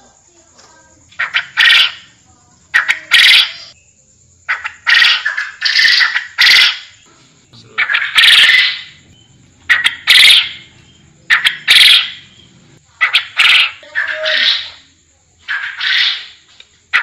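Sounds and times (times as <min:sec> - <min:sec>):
quail calling: 0:01.1 - 0:03.8, 0:04.5 - 0:07.1, 0:07.7 - 0:14.8, 0:15.4 - 0:17.0.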